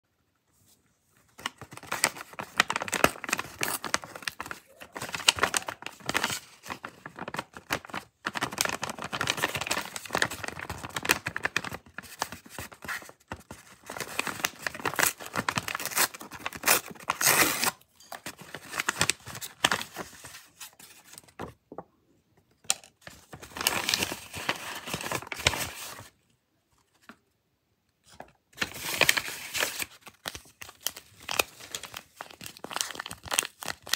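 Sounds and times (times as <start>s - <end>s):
paper bag crinkling and tearing: 1.4s - 21.1s, 23.2s - 26.1s, 28.6s - 33.9s.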